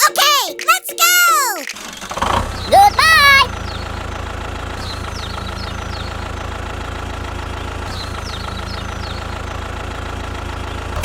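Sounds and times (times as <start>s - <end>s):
engine idling: 1.8s - 11.0s.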